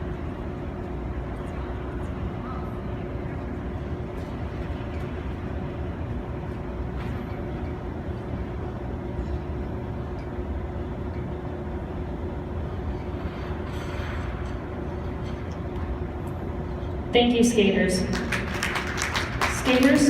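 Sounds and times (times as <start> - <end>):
machinery rumble and hum: 0.0 - 20.0.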